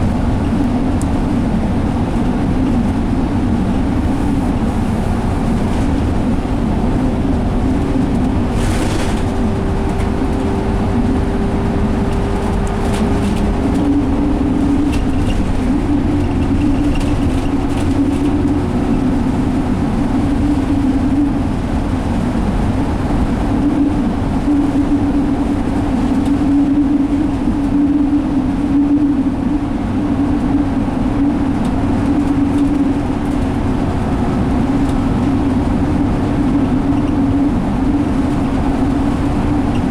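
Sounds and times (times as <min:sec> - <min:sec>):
bus diesel engine drone: 0:00.0 - 0:39.9
road and tyre noise: 0:00.0 - 0:39.9.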